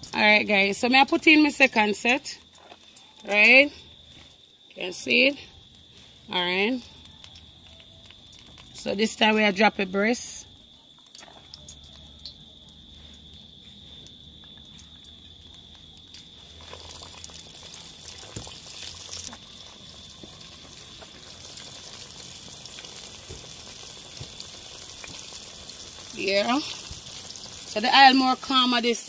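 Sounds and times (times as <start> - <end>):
chicken frying in hot oil: 0.0 - 9.6, 10.2 - 29.0.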